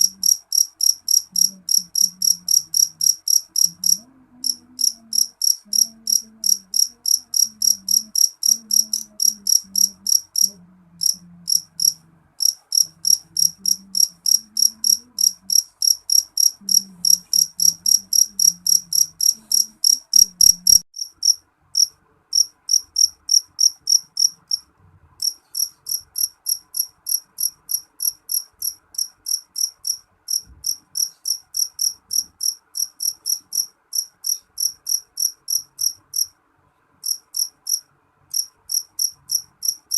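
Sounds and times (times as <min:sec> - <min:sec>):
cricket chirping: 0:00.0 - 0:36.3, 0:37.0 - 0:39.9.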